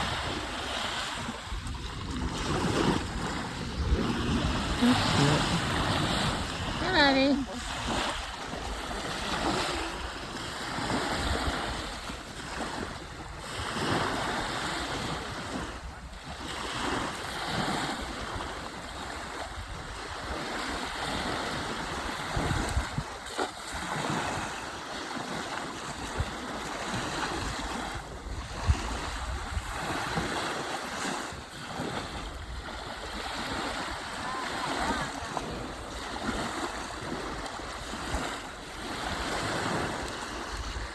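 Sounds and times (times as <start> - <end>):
wind buffeting microphone: 0.0 - 24.6, 25.4 - 40.9
water lapping: 0.0 - 40.9.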